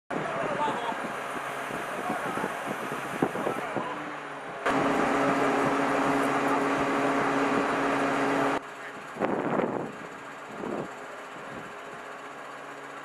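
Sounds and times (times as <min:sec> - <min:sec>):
construction machinery engine humming: 0:00.1 - 0:13.0
construction site noise: 0:00.1 - 0:13.0.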